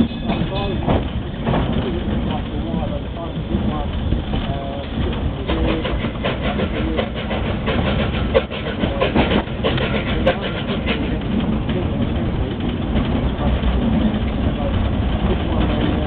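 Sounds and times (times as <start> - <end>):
steam tram rumbling: 0.0 - 16.0
tram wheels clacking: 0.0 - 16.0.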